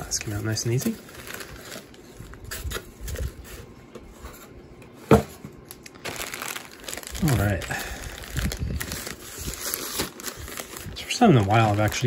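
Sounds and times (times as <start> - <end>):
box packaging rustling: 0.2 - 4.6, 5.2 - 12.0.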